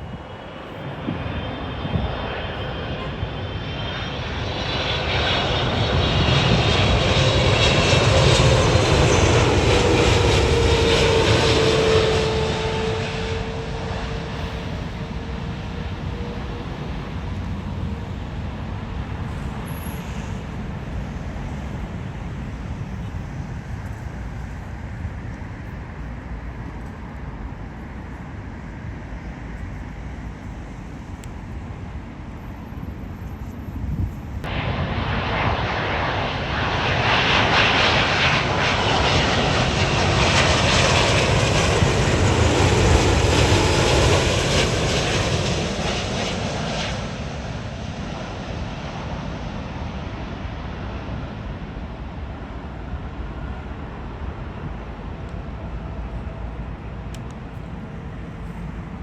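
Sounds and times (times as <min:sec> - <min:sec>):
jet engines rumbling: 0:00.0 - 0:59.0
loud jet engine noise: 0:00.0 - 0:59.0.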